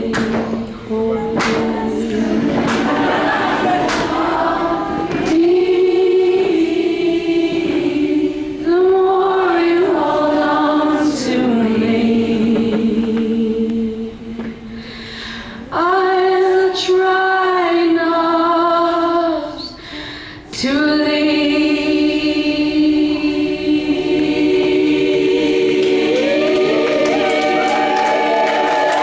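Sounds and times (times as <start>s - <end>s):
a cappella voices singing harmony: 0.0s - 29.0s.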